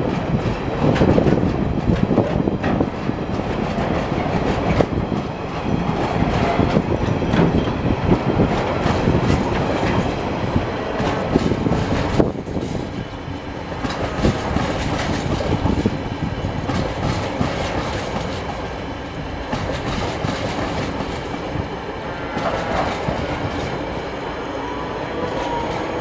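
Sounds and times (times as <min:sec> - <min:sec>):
freight train wheels clattering: 0:00.0 - 0:24.4.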